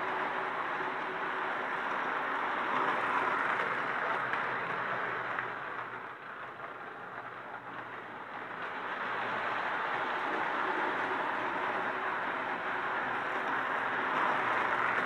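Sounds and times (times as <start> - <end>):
toy train running on track: 0.0 - 15.0.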